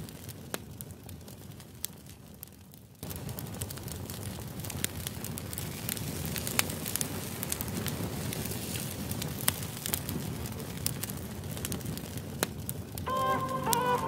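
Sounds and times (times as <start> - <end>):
open fire crackling: 0.0 - 14.0.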